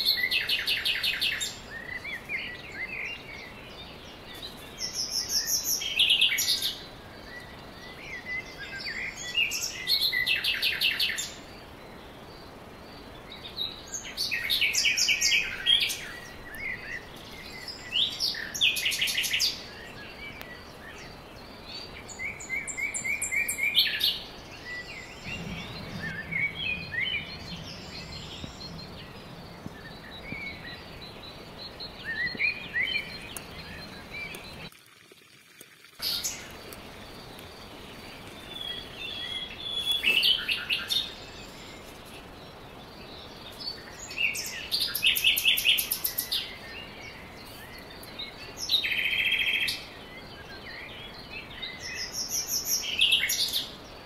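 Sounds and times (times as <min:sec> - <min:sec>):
small birds chirping and trilling: 0:00.0 - 0:34.7, 0:36.0 - 0:54.0
faint open air hiss: 0:00.0 - 0:54.0.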